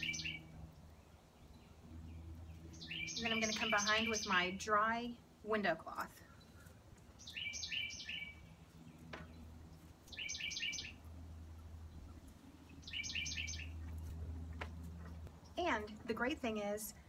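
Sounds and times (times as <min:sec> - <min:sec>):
songbird singing: 0:00.0 - 0:16.7
low steady hum: 0:00.0 - 0:17.0.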